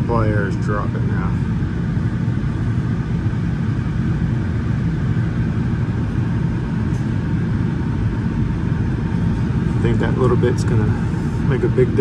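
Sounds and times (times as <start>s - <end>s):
air handler fan rumbling: 0.0s - 12.0s.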